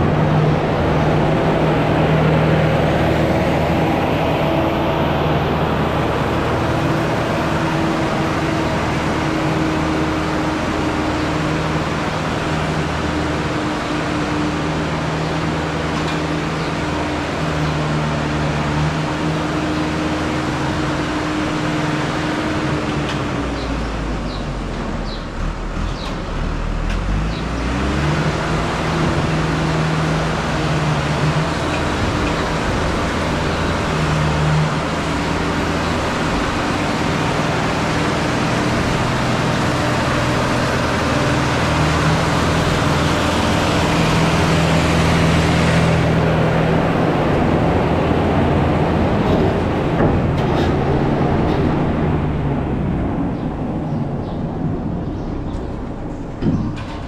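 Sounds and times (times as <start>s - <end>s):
tractor engine under heavy load: 0.0s - 57.0s.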